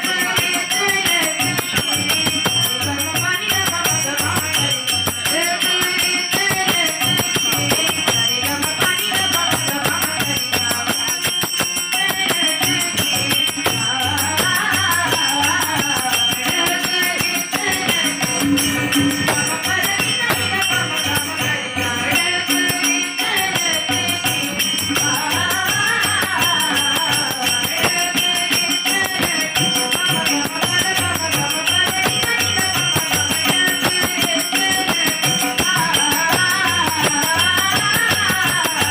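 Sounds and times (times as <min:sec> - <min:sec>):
girls singing devotional song: 0:00.0 - 0:38.9
rattling hand percussion: 0:00.0 - 0:38.9.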